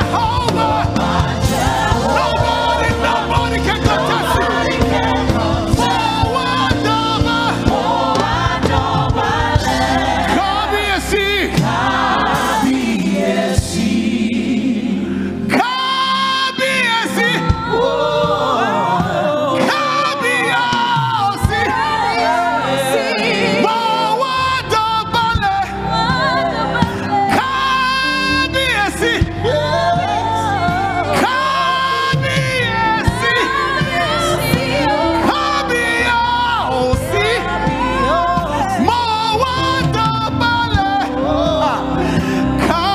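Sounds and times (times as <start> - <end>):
backing singers: 0.0 - 42.9
band playing gospel music: 0.0 - 42.9
man singing lead vocals: 0.0 - 42.9.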